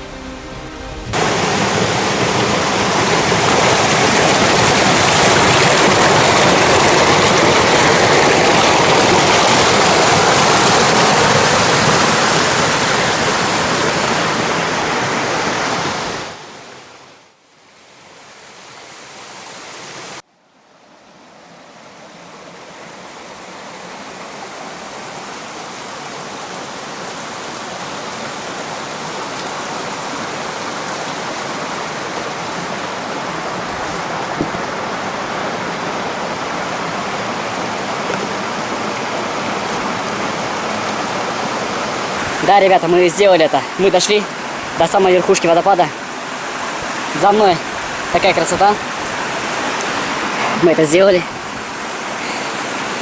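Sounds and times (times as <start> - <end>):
rushing waterfall and river: 0.0 - 53.0.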